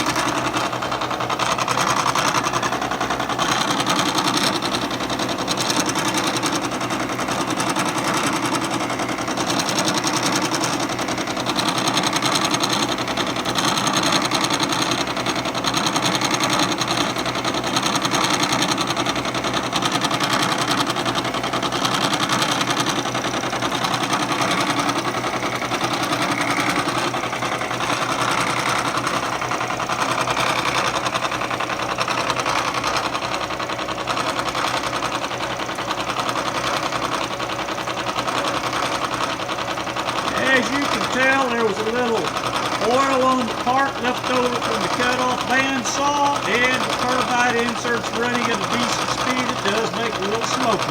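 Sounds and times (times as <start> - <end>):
face mill cutting steel: 0.0 - 50.9
milling machine motor running: 0.0 - 50.9.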